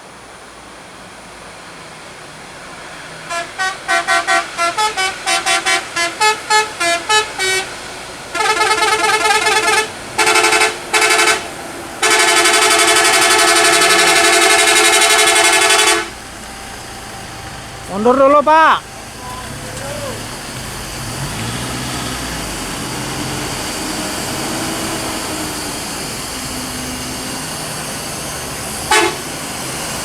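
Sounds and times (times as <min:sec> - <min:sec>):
multi-tone bus horn tune: 0:02.8 - 0:30.0.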